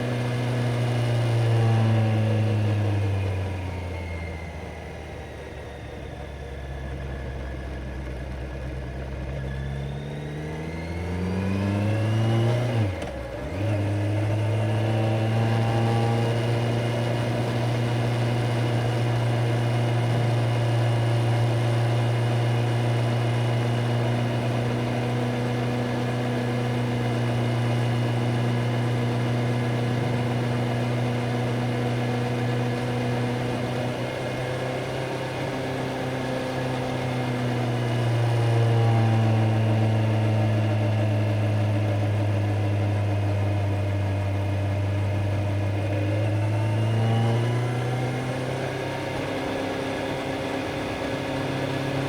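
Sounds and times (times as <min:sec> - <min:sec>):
motorcycle engine running: 0:05.4 - 0:52.0.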